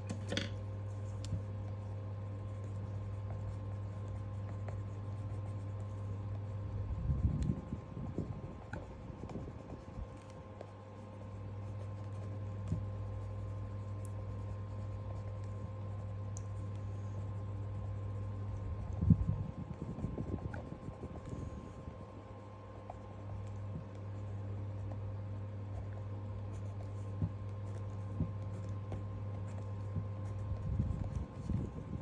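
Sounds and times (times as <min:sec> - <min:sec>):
steady low hum: 0:00.0 - 0:32.0
pencil scratching on paper: 0:00.1 - 0:32.0.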